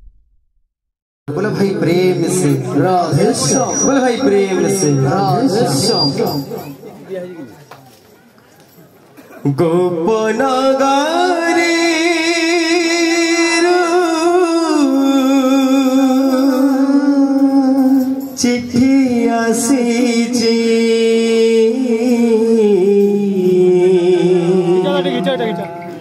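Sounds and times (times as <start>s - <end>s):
man singing devotional song: 1.3s - 6.7s, 9.4s - 25.8s.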